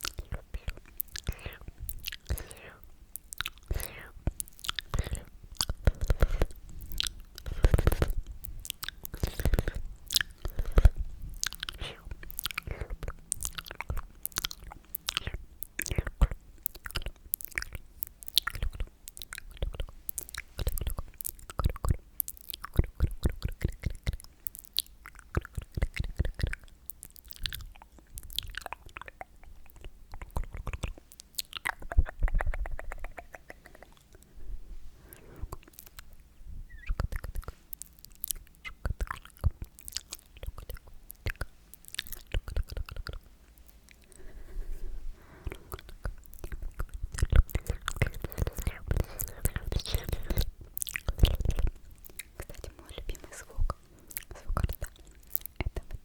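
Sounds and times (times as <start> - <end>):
wet mouth clicks and lip smacks: 0.0 - 34.3, 35.1 - 56.0.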